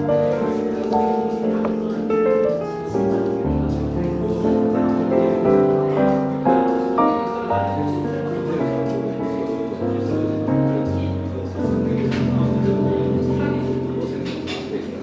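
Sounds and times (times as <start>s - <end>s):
jazz piano music: 0.0s - 15.0s.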